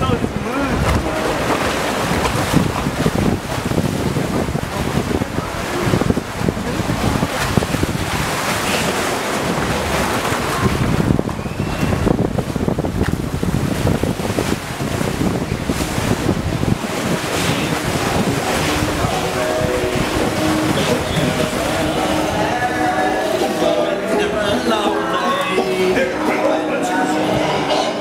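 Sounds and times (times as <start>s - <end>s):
wind buffeting microphone: 0.0s - 24.6s
rushing churning water: 0.0s - 28.0s.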